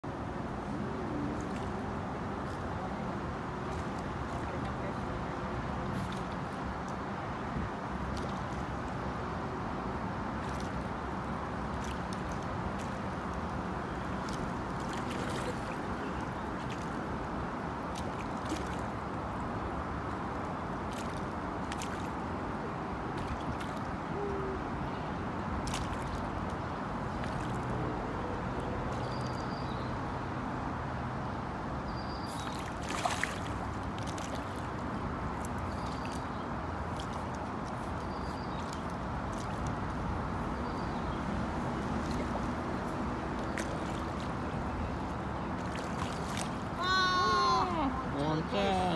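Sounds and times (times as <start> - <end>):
outdoor background noise: 0.0 - 48.9.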